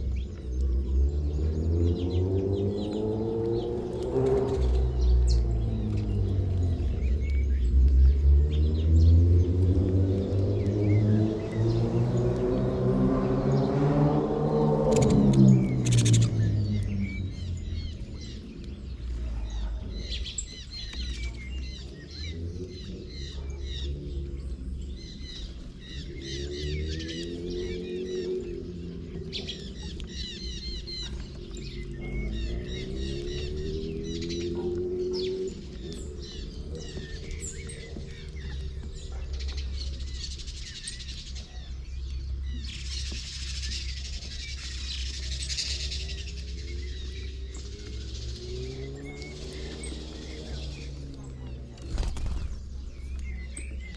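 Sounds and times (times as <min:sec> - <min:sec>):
small birds chirping and twittering: 0:00.0 - 0:53.9.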